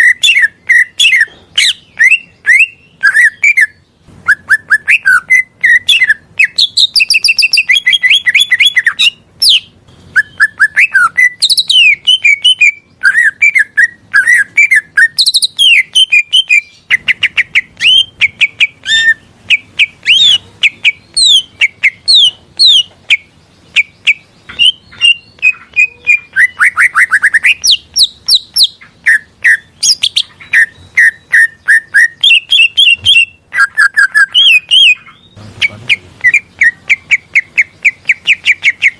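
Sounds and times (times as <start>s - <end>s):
bird singing chirps and trills: 0.0s - 38.9s.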